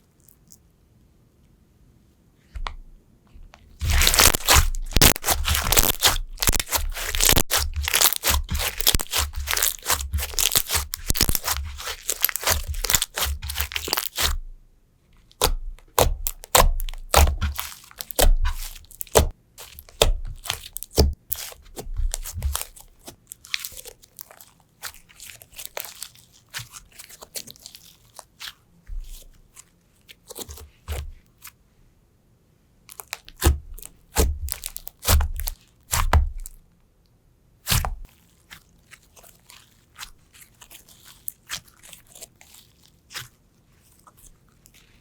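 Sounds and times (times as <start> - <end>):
slime crunching and crackling: 3.8 - 14.5, 15.2 - 31.6, 32.9 - 36.6, 37.7 - 45.0.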